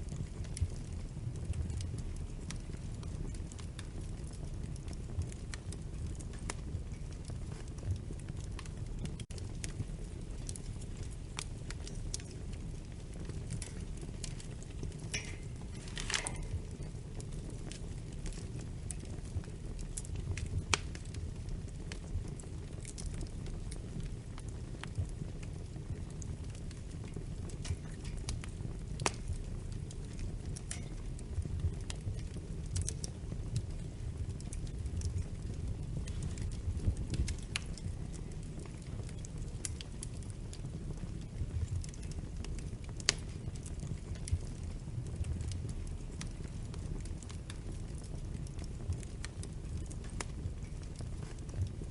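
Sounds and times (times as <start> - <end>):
low rumble of flames: 0.0 - 51.9
wood fire popping: 0.0 - 51.9.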